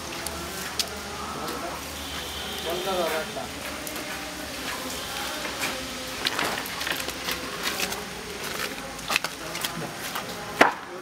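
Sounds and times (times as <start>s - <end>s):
faint background voices: 0.0s - 11.0s.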